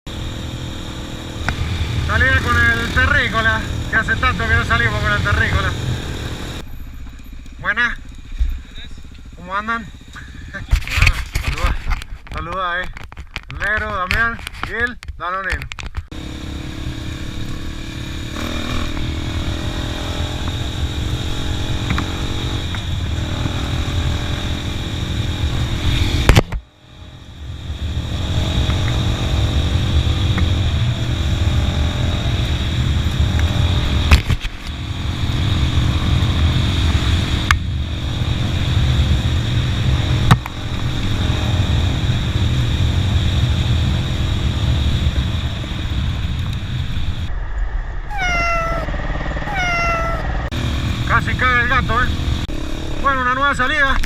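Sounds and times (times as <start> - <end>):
motorcycle engine rumbling: 0.1 - 54.0.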